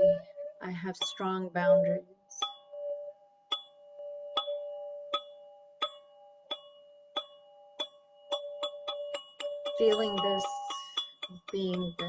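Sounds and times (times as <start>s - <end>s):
tuned chime ringing: 0.0s - 12.0s.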